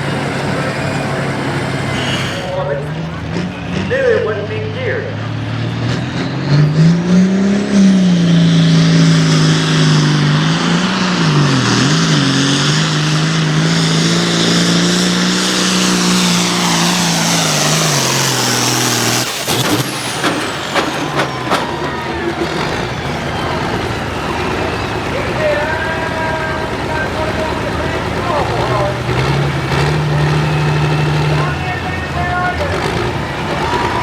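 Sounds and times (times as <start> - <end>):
high turbo whine: 0.0 - 34.0
tractor diesel engine under load: 0.0 - 34.0.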